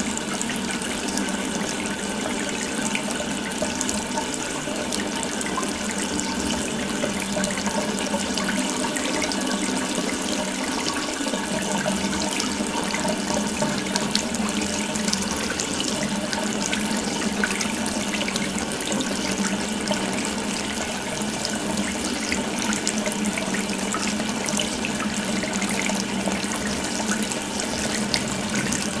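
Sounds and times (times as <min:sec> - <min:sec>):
water running from a tap: 0:00.0 - 0:29.0.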